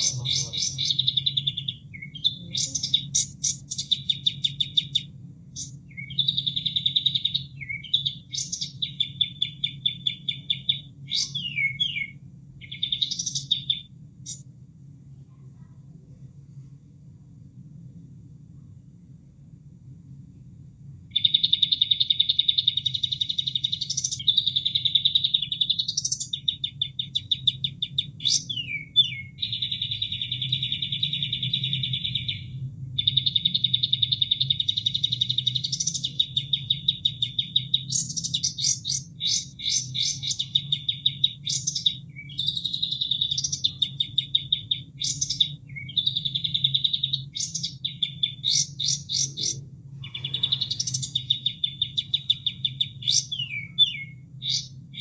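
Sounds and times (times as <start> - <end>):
songbird singing buzzing trills: 0.0 - 14.5, 21.1 - 55.0
faint low hum: 0.0 - 55.0.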